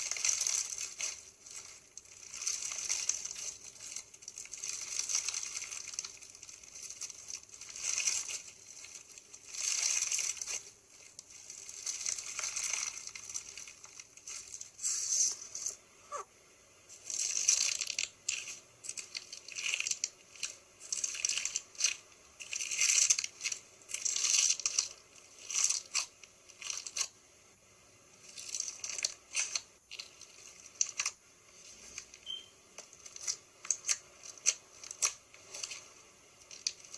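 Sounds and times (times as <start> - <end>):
crunchy slime crackling and popping: 0.0 - 16.2, 16.9 - 27.2, 28.2 - 36.9.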